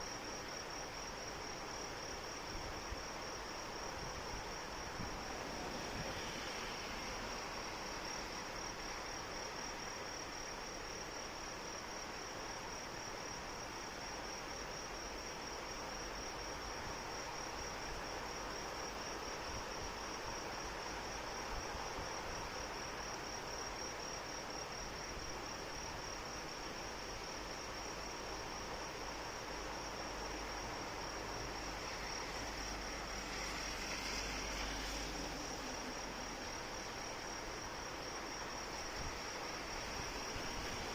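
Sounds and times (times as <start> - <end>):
steady rain falling: 1.3 - 40.9.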